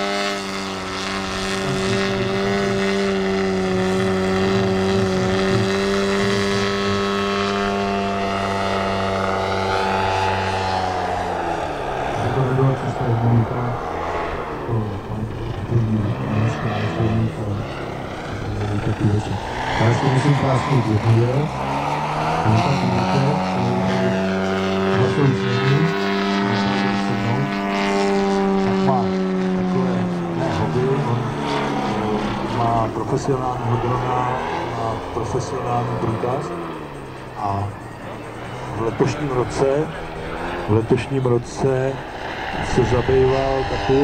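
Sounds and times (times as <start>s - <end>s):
model airplane engine running: 0.0s - 44.0s.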